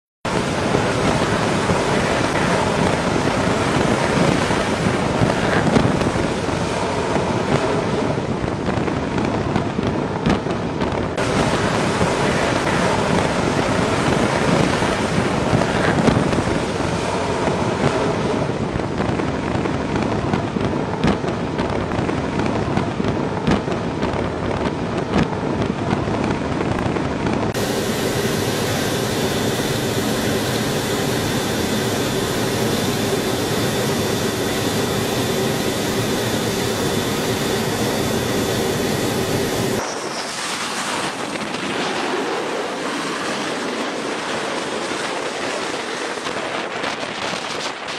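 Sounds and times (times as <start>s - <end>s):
jet engines at high power: 0.3s - 47.9s
wind on microphone: 0.3s - 47.9s.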